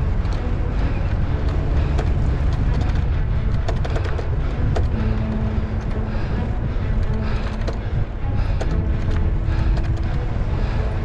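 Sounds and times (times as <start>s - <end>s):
steady hum: 0.0s - 11.0s
wind rumbling on microphone: 0.0s - 11.0s
sharp clicks and rattles: 0.1s - 10.4s.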